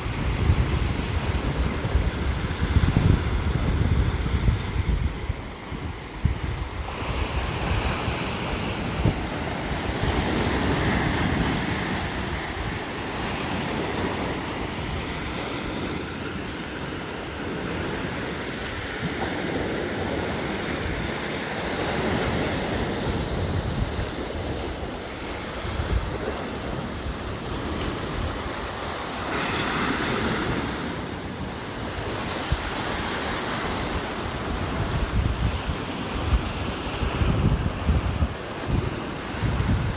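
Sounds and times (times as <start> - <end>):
flowing water rushing: 0.0 - 39.9
wind buffeting microphone: 0.0 - 39.9.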